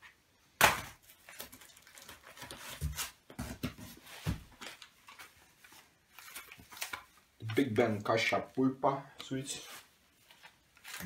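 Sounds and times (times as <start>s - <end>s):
bubble wrap and cardboard rustling: 0.6s - 8.6s, 9.4s - 11.0s.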